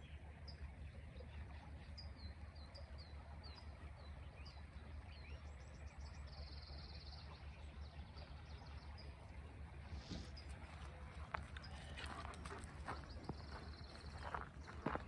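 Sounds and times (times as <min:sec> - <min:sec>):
bird chirping: 0:00.0 - 0:15.0
low steady rumble: 0:00.0 - 0:15.0.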